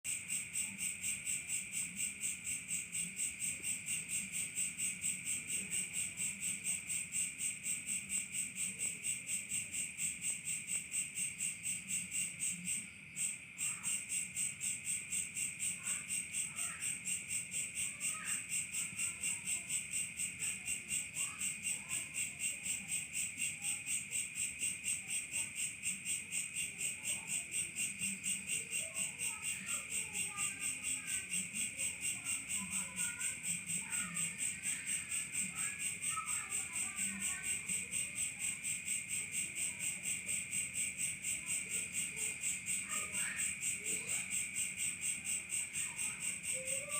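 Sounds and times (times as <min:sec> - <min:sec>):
night insects chirping: 0:00.1 - 0:46.9.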